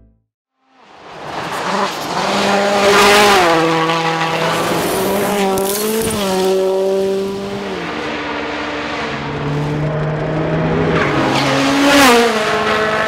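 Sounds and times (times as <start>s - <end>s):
rally car engine at speed: 0.6s - 13.0s.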